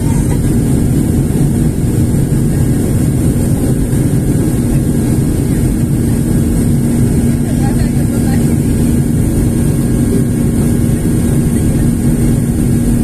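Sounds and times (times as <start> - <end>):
jet engine rumble: 0.0 - 13.0
steady low hum: 0.0 - 13.0.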